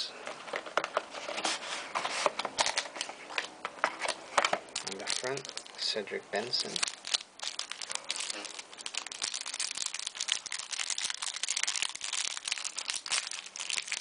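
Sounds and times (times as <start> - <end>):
plastic wrapping crinkling: 0.3 - 14.0.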